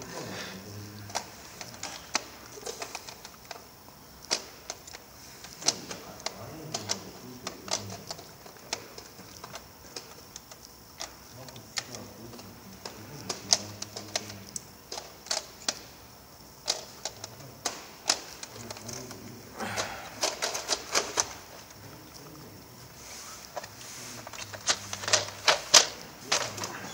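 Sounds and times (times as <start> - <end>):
plastic parts clicking into trays: 1.1 - 16.0, 16.6 - 22.5, 23.4 - 26.9.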